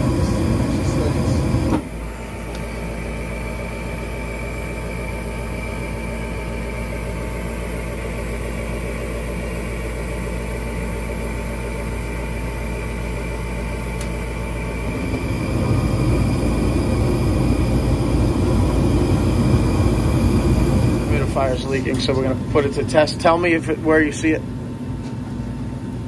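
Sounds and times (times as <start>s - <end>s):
furnace motor hum: 0.0s - 26.0s.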